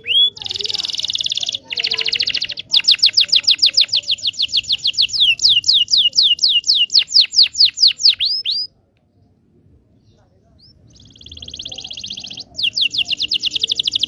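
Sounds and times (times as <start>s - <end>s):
canary singing: 0.0s - 8.7s, 10.0s - 14.0s.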